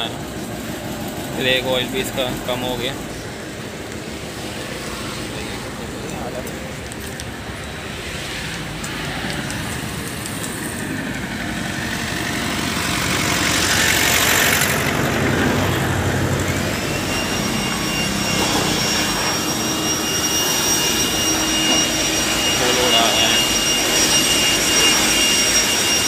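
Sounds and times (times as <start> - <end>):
air blower rushing air: 0.0 - 26.0
high motor whine: 0.0 - 26.0.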